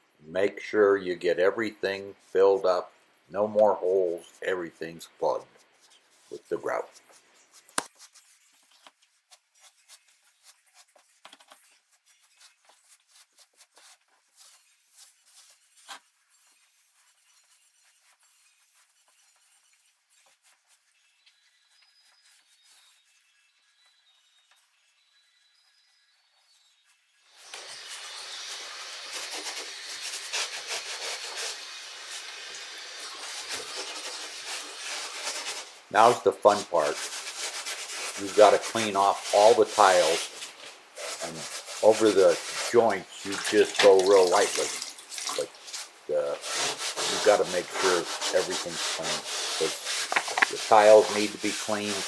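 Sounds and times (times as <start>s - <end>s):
grout scraping on tiles: 3.8s - 25.4s, 26.1s - 52.0s.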